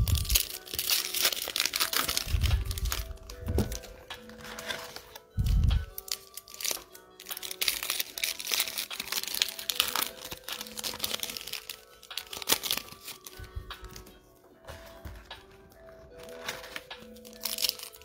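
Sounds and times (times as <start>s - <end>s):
foil wrapper crinkling: 0.0s - 14.1s, 16.2s - 18.0s.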